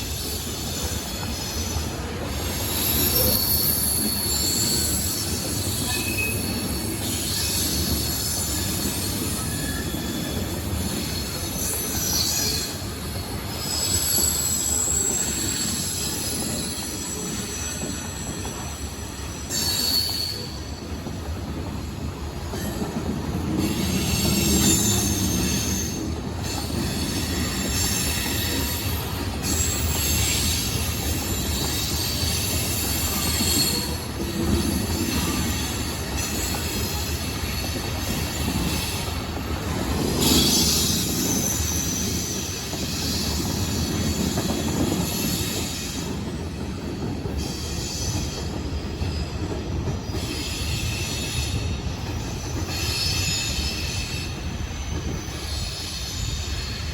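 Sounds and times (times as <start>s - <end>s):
train rumble: 0.0s - 56.9s
train wheels squealing on rails: 0.0s - 56.9s.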